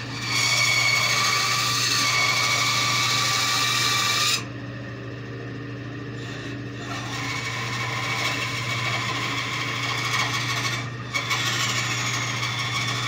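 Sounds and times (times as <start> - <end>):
bandsaw cutting wood: 0.0 - 4.5, 6.2 - 13.0
bandsaw humming: 0.0 - 4.5, 6.2 - 13.0.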